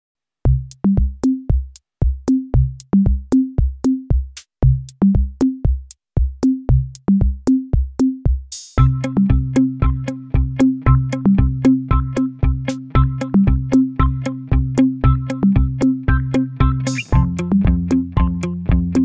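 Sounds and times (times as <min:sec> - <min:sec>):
drum machine beat: 0:00.5 - 0:19.0.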